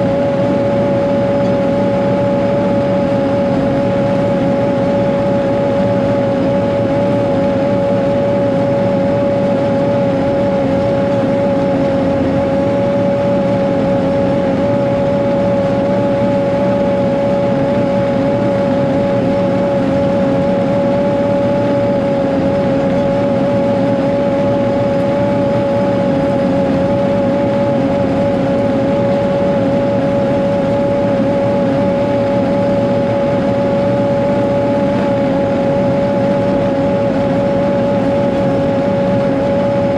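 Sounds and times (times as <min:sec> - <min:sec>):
steady high whine: 0:00.0 - 0:39.9.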